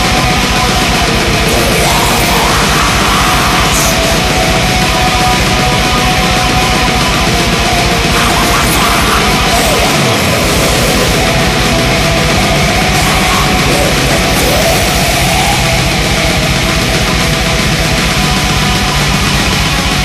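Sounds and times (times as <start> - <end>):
distorted guitars: 0.0 - 20.0
rapid drum beat: 0.0 - 20.0.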